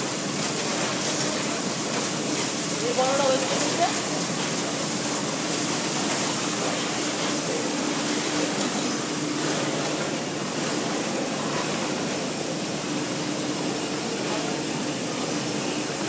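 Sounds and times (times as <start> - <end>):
steady machinery noise: 0.0 - 16.0.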